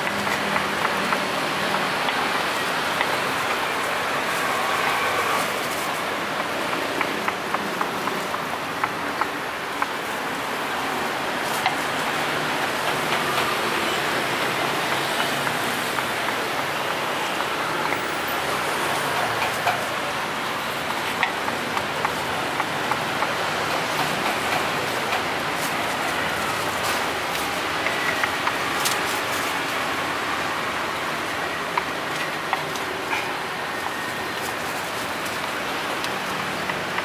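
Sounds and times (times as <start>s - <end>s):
street traffic hiss: 0.0s - 37.0s.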